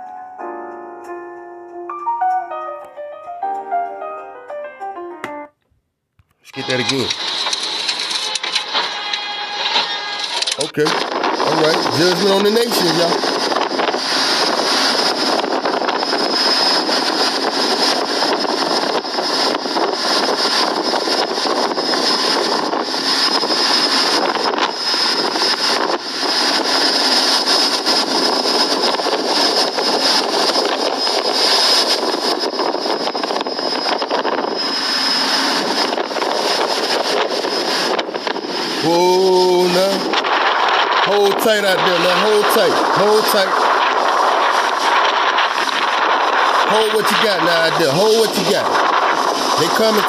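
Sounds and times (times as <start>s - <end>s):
thin high whine: 6.4s - 50.0s
storm wind and rough sea roar: 6.6s - 50.0s.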